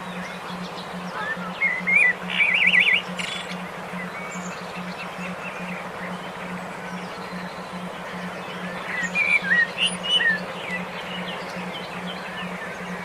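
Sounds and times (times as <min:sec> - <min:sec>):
pulsing low hum: 0:00.0 - 0:13.0
bird trill: 0:00.1 - 0:13.0.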